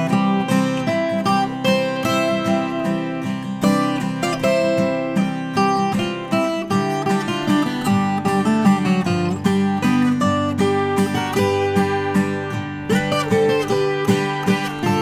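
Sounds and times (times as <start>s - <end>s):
folk guitar plucked melody: 0.0s - 15.0s.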